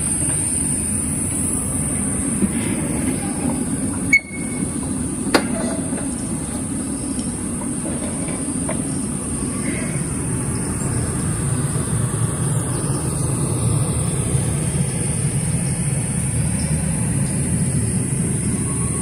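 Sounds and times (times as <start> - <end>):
constant high hiss: 0.0 - 19.0.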